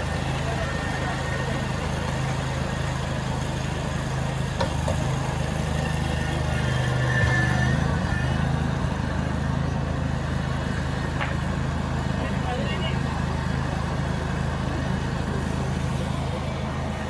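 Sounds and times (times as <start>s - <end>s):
construction machine engine running: 0.0s - 17.0s.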